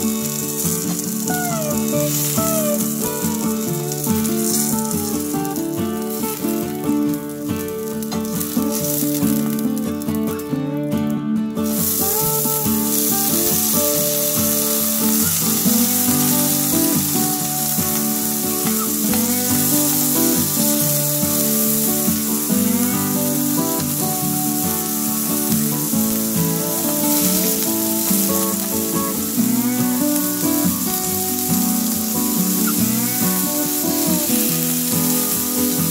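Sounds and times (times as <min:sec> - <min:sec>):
onion sizzling in hot oil: 0:00.0 - 0:35.9.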